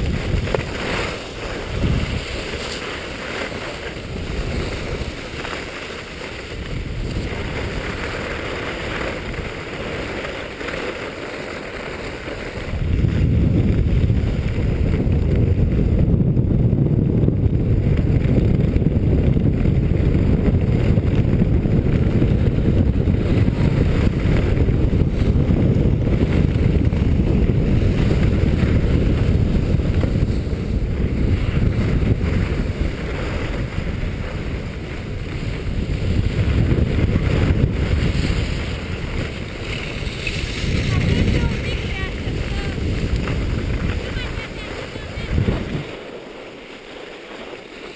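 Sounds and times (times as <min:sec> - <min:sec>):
skis sliding on packed snow: 0:00.0 - 0:47.9
wind buffeting microphone: 0:00.0 - 0:47.9.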